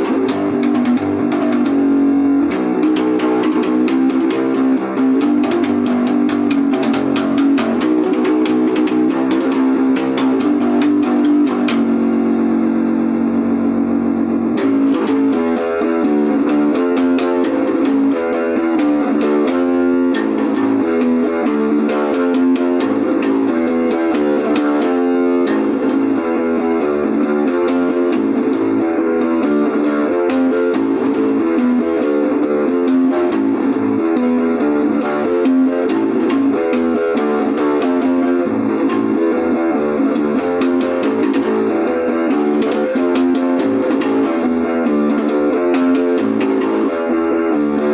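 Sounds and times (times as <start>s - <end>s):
guitar playing quick picked runs: 0.0s - 47.9s.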